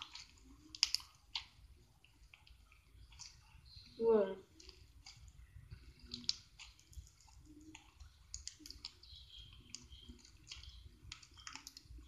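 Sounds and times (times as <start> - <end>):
slime clicking and crackling: 0.0 - 12.0.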